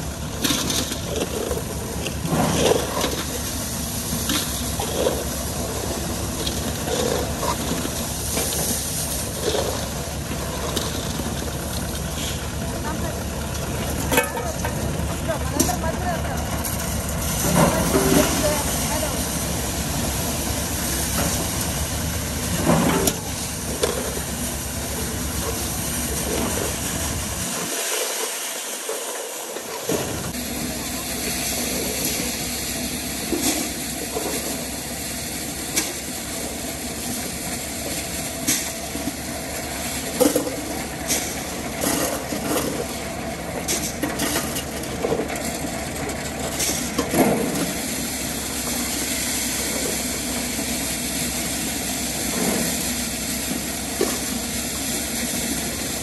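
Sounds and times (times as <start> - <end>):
maize sheller running: 0.0 - 56.0.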